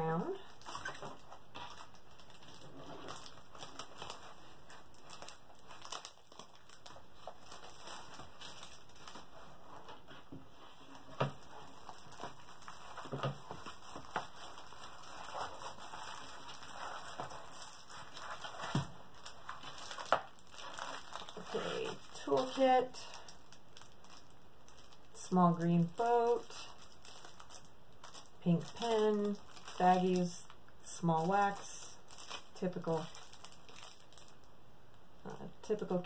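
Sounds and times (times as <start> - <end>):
canvas rustling and crinkling: 0.0 - 25.2, 25.8 - 30.4, 31.2 - 34.4.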